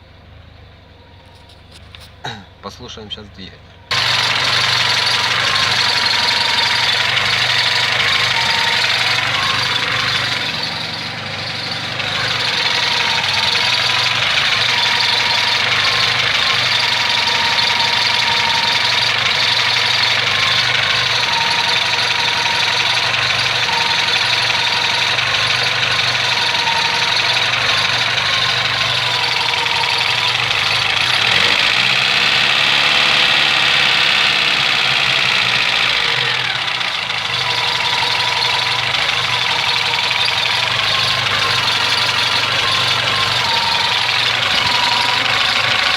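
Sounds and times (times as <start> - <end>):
car engine idling: 0.0 - 45.9
alternator humming: 0.8 - 45.9.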